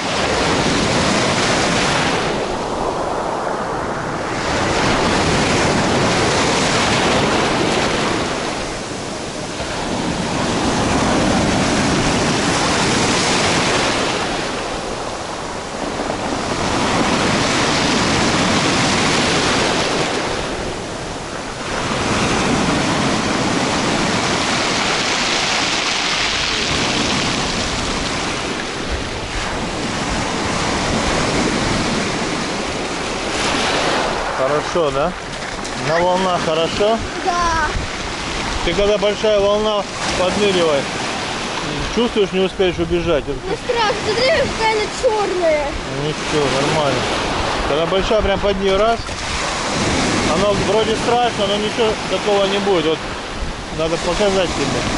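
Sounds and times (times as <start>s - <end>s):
surf breaking on pebble shore: 0.0s - 54.9s.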